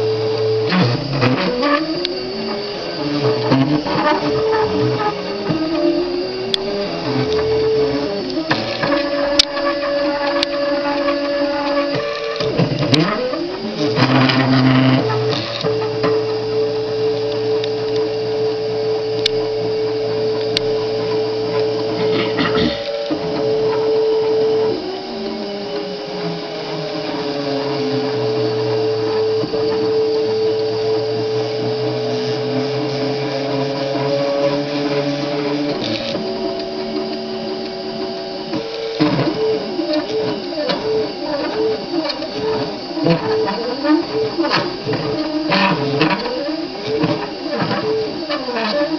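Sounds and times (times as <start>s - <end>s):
stepper motors whining: 0.0s - 48.9s.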